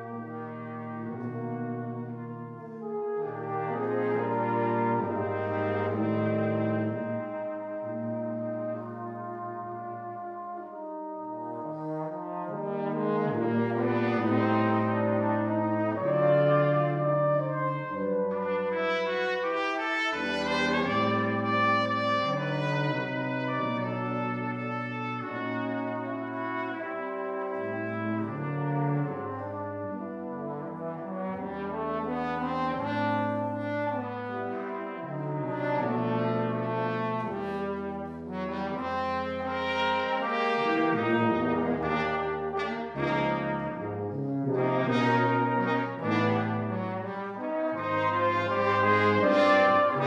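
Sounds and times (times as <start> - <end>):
brass ensemble playing chords: 0.0 - 50.0
low tuba bass line: 0.0 - 50.0.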